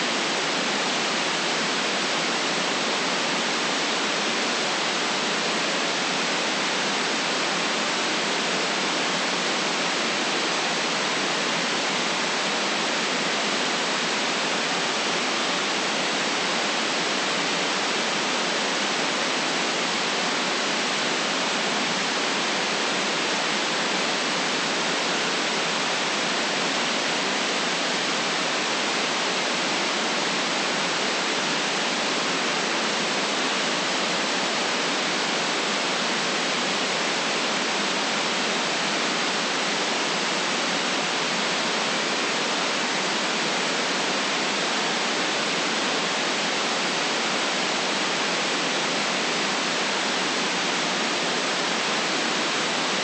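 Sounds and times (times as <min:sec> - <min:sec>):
steady white noise hiss: 0:00.0 - 0:53.0.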